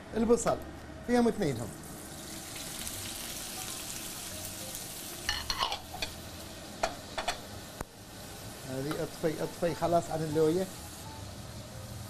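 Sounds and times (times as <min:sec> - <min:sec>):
onions sizzling in oil: 0:01.5 - 0:12.0.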